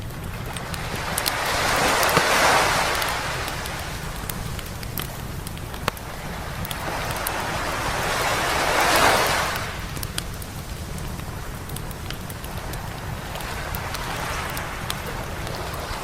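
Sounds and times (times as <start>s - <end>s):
bonfire crackling and popping: 0.0s - 16.0s
wave breaking on beach: 0.3s - 11.0s, 12.4s - 16.0s.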